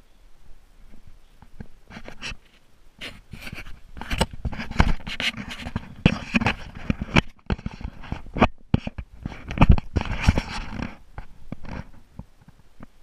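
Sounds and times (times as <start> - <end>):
fabric and gear rubbing on microphone: 0.8 - 12.1.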